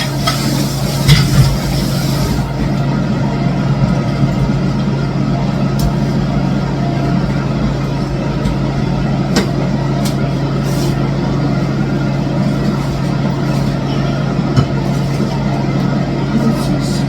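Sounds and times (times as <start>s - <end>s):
loud machine hum: 0.0s - 17.0s.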